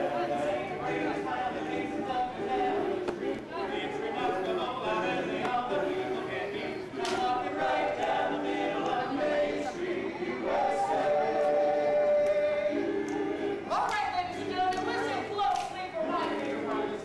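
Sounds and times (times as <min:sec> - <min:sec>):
men singing in harmony: 0:00.0 - 0:13.7.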